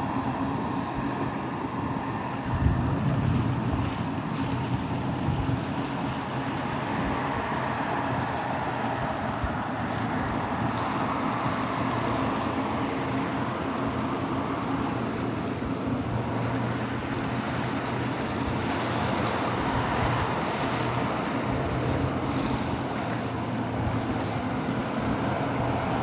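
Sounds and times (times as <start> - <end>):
boat engine running: 0.0 - 26.0
waves breaking: 0.0 - 26.0
wind buffeting microphone: 0.0 - 26.0.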